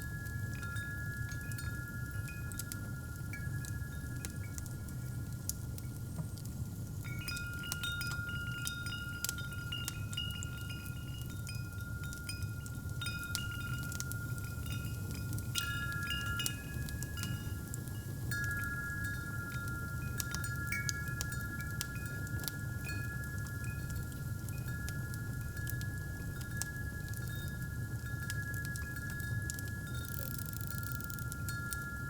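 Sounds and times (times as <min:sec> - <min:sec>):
fireplace crackling: 0:00.0 - 0:32.0
metal wind chimes ringing: 0:00.0 - 0:32.0.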